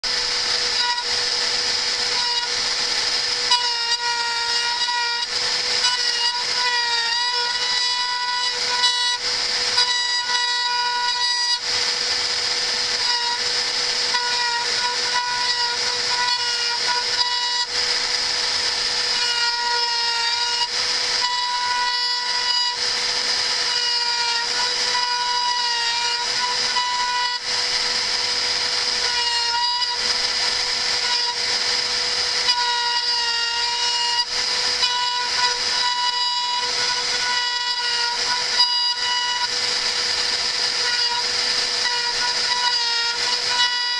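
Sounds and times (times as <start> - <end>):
hiss of cutting: 0.0 - 43.9
router spindle high whine: 0.0 - 43.9.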